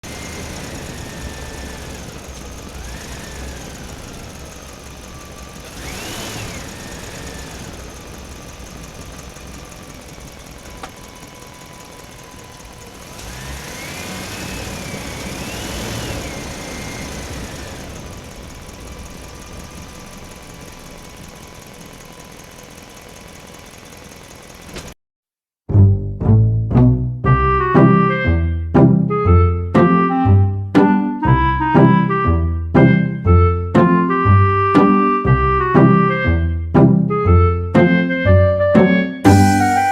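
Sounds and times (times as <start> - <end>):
truck motor running: 0.0 - 25.0, 25.8 - 39.9.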